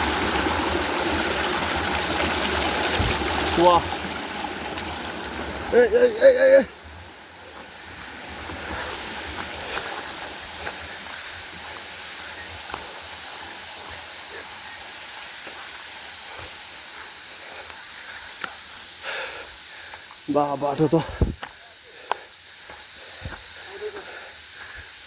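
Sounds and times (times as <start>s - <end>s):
high-pitched insect drone: 2.9s - 25.0s.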